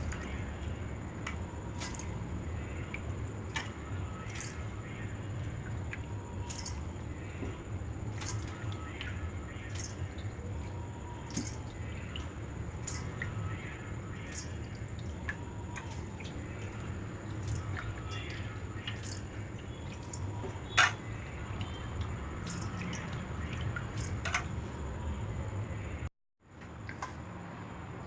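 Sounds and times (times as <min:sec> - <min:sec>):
water dripping and sloshing: 0:00.0 - 0:28.0.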